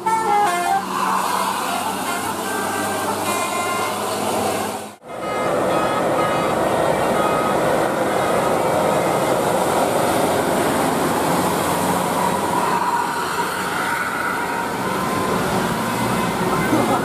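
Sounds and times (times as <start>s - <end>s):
bus passing: 0.0s - 17.0s.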